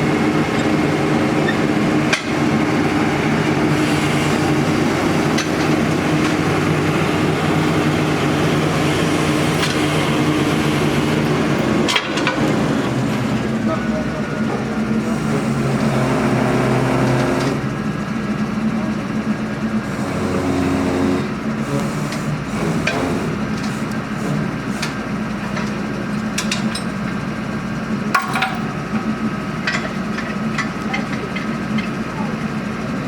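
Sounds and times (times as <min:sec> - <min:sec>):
drilling rig engine running: 0:00.0 - 0:33.0.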